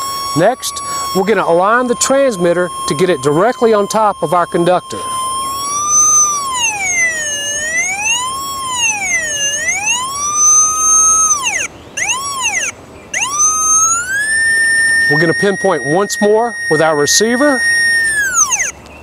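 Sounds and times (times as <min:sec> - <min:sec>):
utility locator whistle tone: 0:00.0 - 0:19.0.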